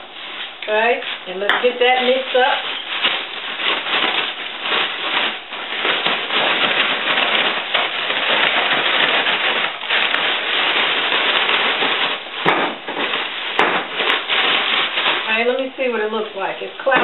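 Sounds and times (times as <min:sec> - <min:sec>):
plastic bag rustling: 0:00.0 - 0:17.0.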